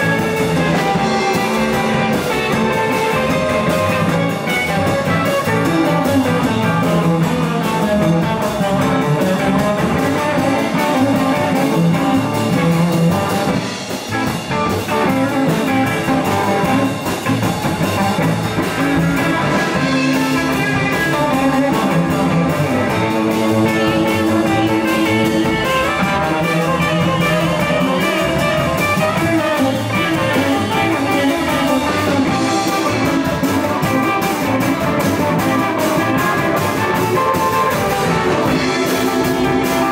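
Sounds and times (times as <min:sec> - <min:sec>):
electric blues band playing: 0:00.0 - 0:39.9
electric guitars: 0:00.0 - 0:39.9.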